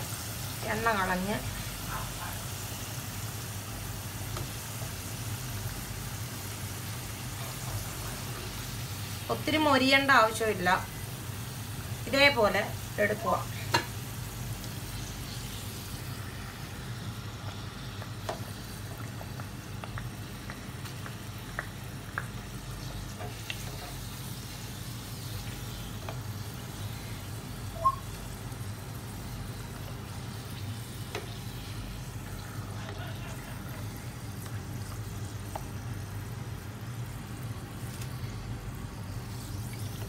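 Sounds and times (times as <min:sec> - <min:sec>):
potatoes sizzling in hot oil: 0:00.0 - 0:40.0.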